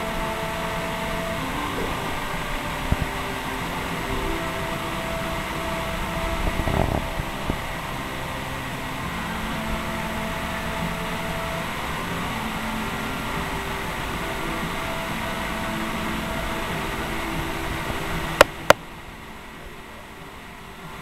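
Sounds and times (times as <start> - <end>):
fan-like hum: 0.0 - 21.0.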